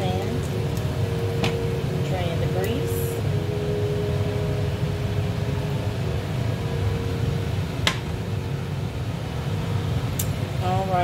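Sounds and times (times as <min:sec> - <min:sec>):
faint whine: 0:00.0 - 0:11.0
kitchen fan humming: 0:00.0 - 0:11.0.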